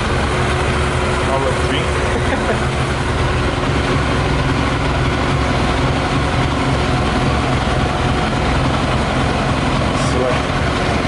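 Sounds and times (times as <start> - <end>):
motorcycle engine idling: 0.0 - 11.0
radiator cooling fan running: 0.0 - 11.0.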